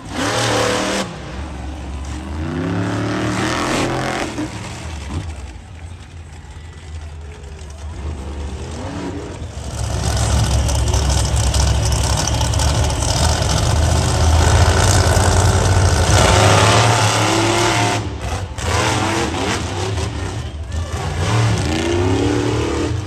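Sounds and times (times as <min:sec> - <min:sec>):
monster truck engines running: 0:00.0 - 0:23.0.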